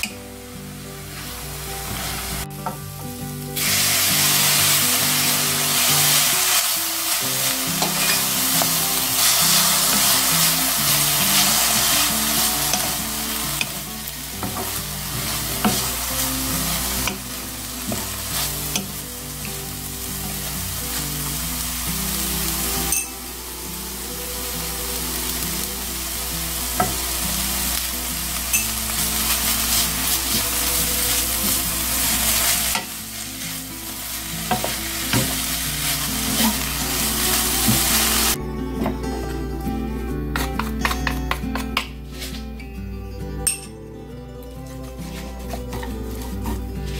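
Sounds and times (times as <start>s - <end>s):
vegetables sizzling in a wok: 0.0s - 38.4s, 44.8s - 46.9s.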